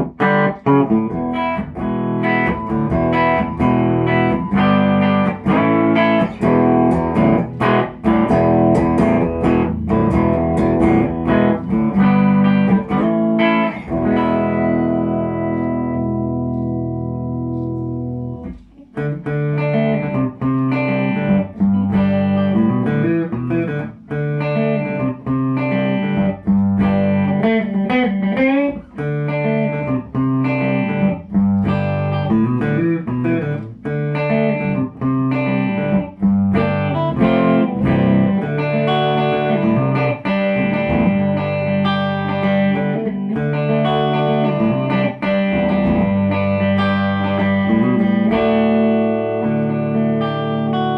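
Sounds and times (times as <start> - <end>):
electric guitar through amp: 0.0 - 50.9.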